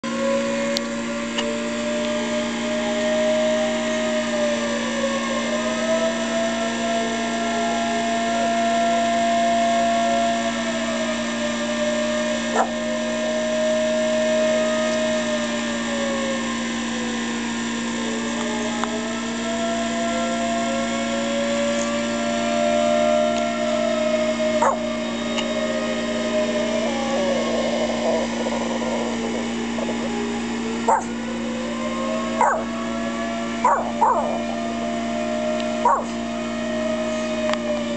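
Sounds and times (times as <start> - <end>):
siren wailing: 0.0 - 37.9
steady hum: 0.0 - 37.9.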